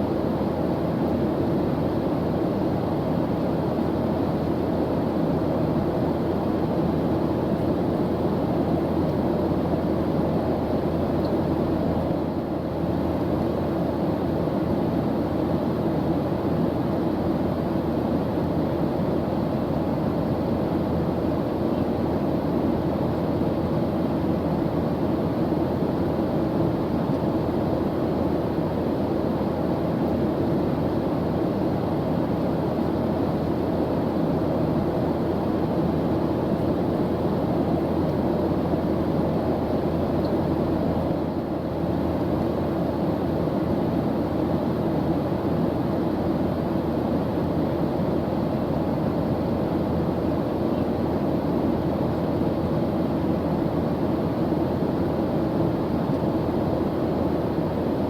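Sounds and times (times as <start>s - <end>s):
airplane engine drone: 0.0s - 58.0s.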